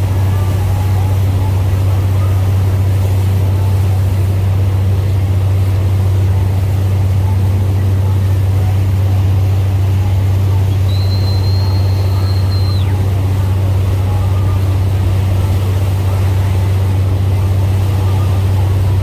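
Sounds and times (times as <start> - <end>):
boat engine drone: 0.0 - 19.0.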